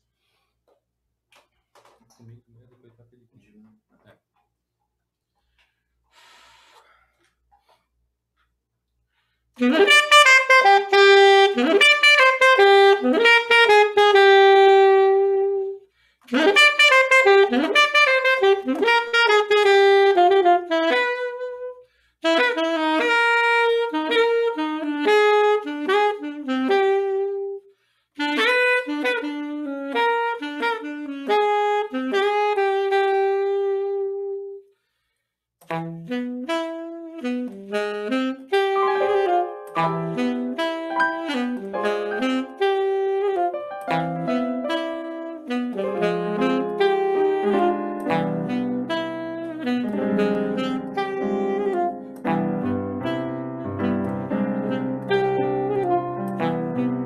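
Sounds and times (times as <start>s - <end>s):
saxophone playing melodic phrases: 9.6s - 34.7s, 35.6s - 57.0s.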